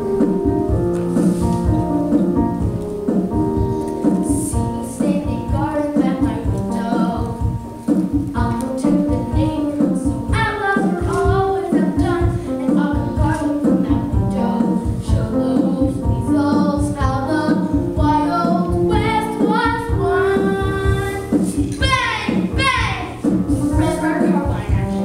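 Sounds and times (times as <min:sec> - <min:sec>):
instrumental music with steady beat: 0:00.0 - 0:25.0.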